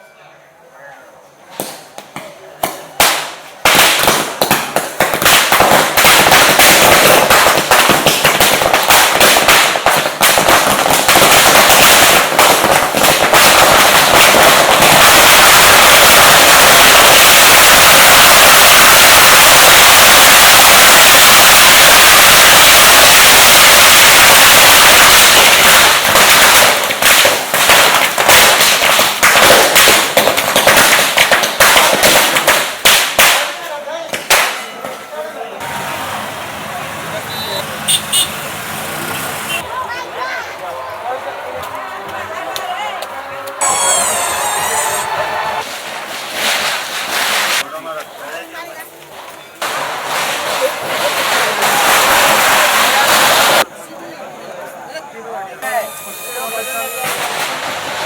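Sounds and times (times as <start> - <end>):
firecrackers banging: 1.6 - 53.8, 55.6 - 58.0.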